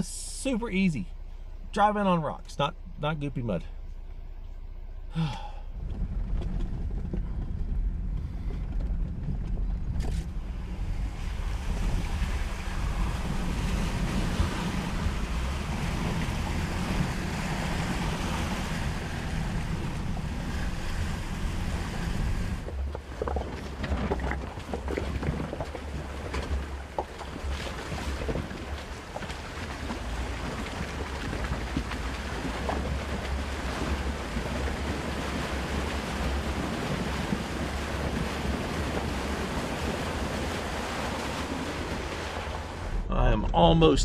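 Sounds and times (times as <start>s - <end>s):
engine running low: 0.0s - 44.0s.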